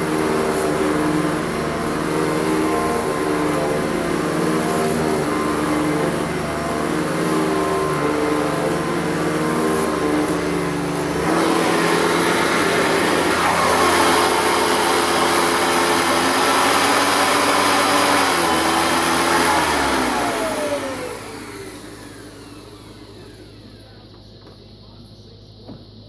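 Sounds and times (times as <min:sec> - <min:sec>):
vacuum motor spinning down: 0:00.0 - 0:24.2
upright vacuum running: 0:00.0 - 0:25.8.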